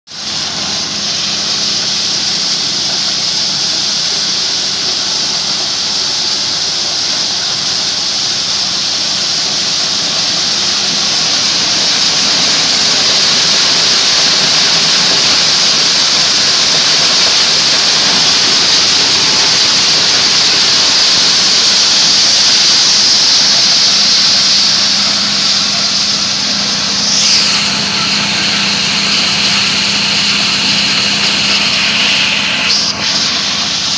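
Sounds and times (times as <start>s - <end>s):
maize sheller running: 0.1s - 33.9s.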